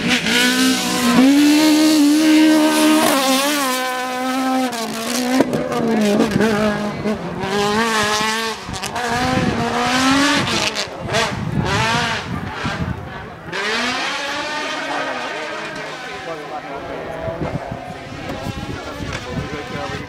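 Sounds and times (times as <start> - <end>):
race car engine at high revs: 0.0 - 20.0.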